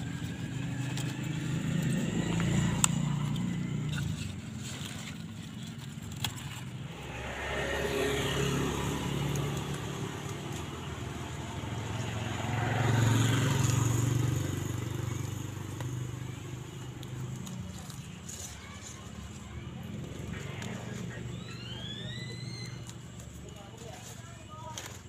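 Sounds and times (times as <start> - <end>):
vehicles passing on road: 0.0 - 25.0.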